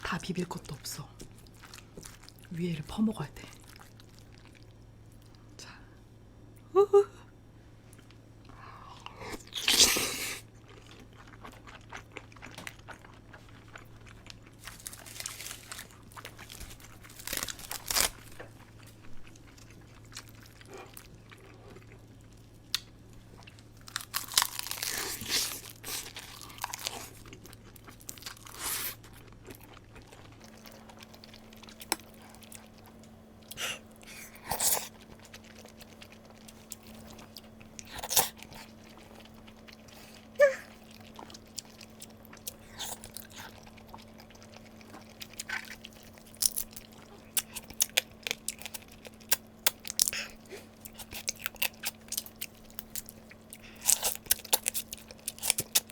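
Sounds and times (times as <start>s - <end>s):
crunching and chewing food: 0.0s - 5.5s, 7.6s - 55.9s
faint low hum: 0.0s - 55.9s.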